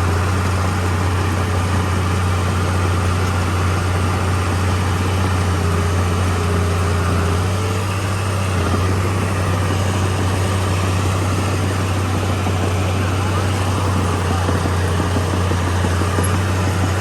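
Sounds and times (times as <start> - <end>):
bulldozer diesel engine drone: 0.0 - 17.0.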